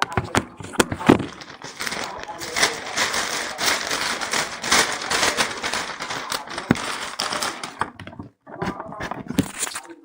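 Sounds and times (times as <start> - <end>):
packaging crinkling and clicking: 0.0 - 8.3.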